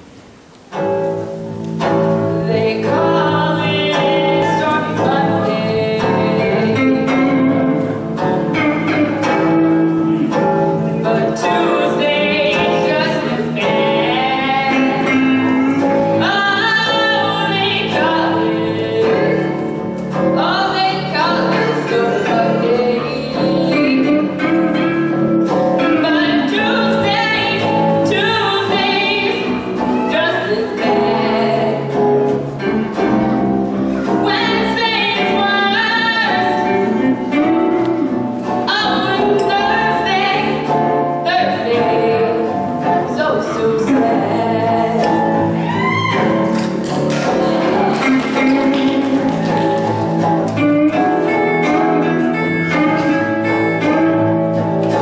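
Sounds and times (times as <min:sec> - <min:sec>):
guitar ensemble playing blues: 0:00.5 - 0:55.0.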